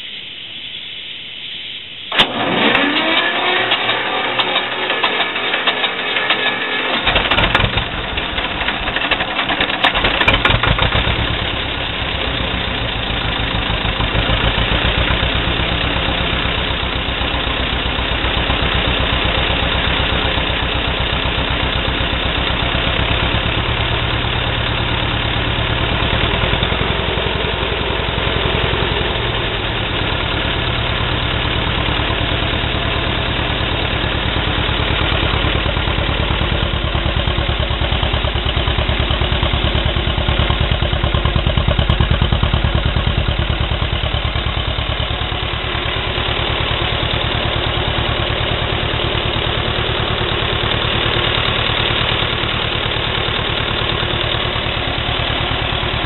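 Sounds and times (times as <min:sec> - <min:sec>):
diesel tractor engine idling: 0:02.0 - 0:56.0.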